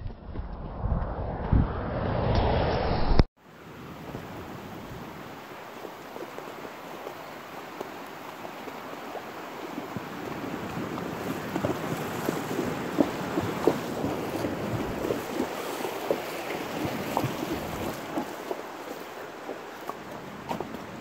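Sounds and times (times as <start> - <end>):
stream running: 3.4 - 21.0
hooves splashing in water: 4.0 - 21.0.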